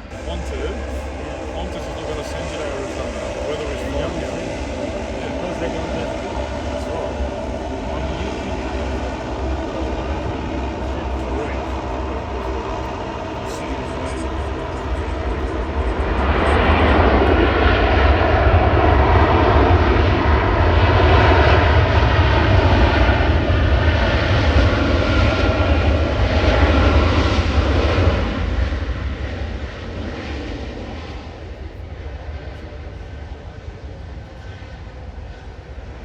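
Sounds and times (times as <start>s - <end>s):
jet airliner rumble: 0.0s - 36.0s.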